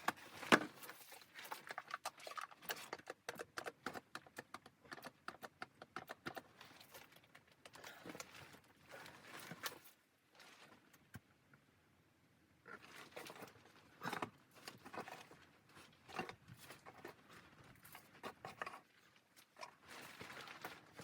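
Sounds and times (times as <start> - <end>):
quiet crunching and rustling: 0.0 - 11.8, 12.6 - 21.0.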